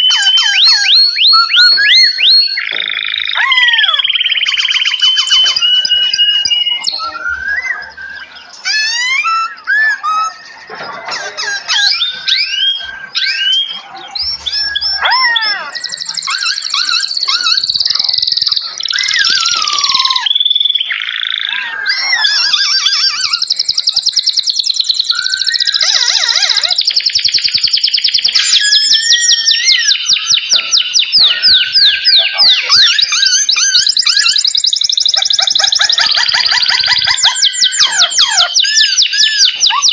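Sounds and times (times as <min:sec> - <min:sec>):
fast bird trill: 0:00.0 - 0:39.9
songbirds singing: 0:00.0 - 0:39.9.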